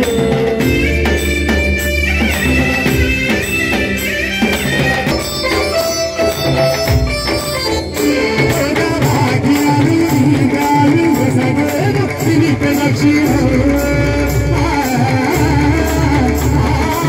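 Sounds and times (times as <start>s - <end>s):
devotional music melody: 0.0s - 17.0s
hand drum percussion: 0.0s - 17.0s.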